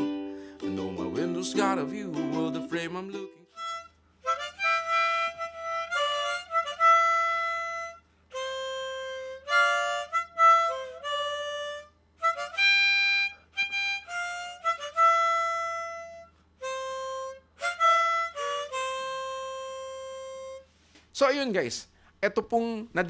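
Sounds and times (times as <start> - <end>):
harmonica melody: 0.0 - 20.8.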